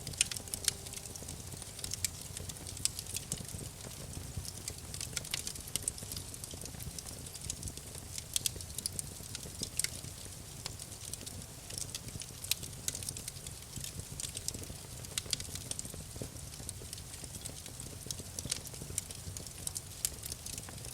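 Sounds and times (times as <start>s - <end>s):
campfire crackling and popping: 0.0s - 20.9s.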